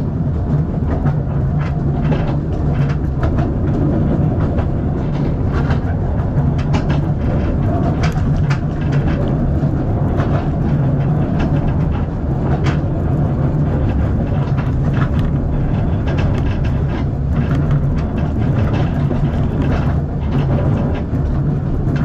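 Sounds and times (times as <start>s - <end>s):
railway carriage rumbling: 0.0s - 22.0s
wheel clicks and knocks: 0.4s - 22.0s.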